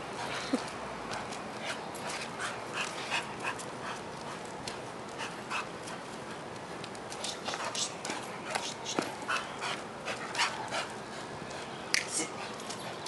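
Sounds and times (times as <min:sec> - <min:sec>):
dog panting: 0:00.1 - 0:06.4, 0:07.1 - 0:13.0.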